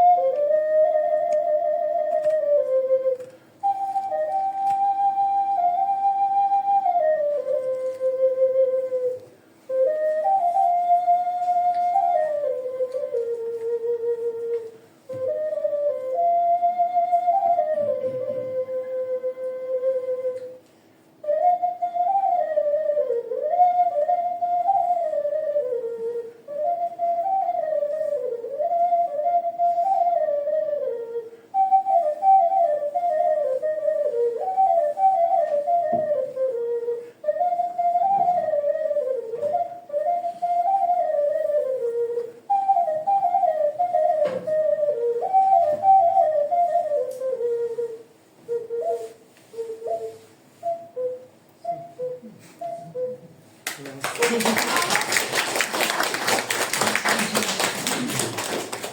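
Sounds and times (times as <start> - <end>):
folk melody on whistle: 0.0 - 53.4.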